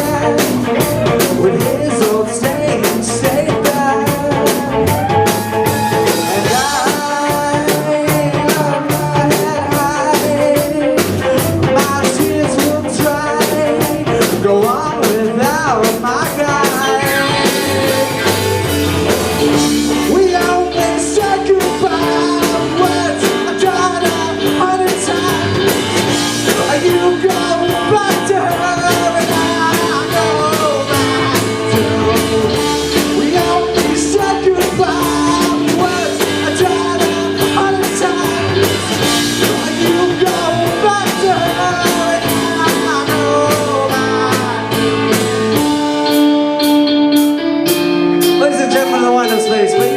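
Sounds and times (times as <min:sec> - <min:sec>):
bass guitar: 0:00.0 - 0:49.9
drum kit beat: 0:00.0 - 0:49.9
electric guitar: 0:00.0 - 0:49.9
person singing: 0:00.0 - 0:49.9.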